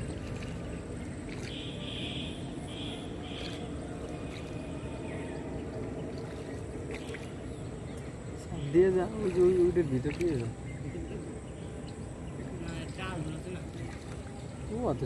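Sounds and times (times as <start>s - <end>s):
water rumbling against boat hull: 0.0s - 15.0s.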